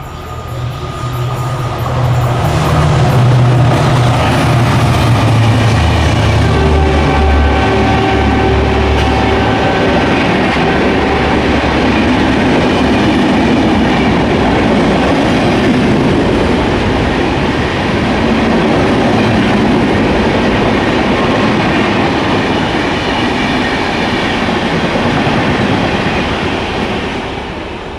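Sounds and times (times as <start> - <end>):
locomotive engine hum: 0.0 - 24.2
train wheels clattering on rails: 0.0 - 27.2
train cars rumbling past: 0.0 - 27.9.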